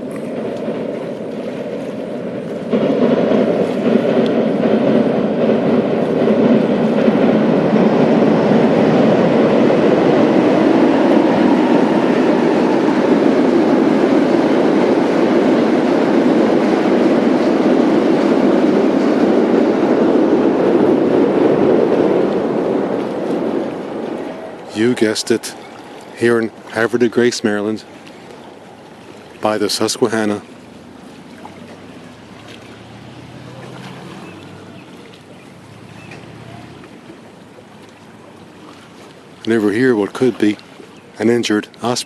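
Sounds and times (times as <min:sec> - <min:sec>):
train wheels rumbling on rail: 0:00.0 - 0:37.8.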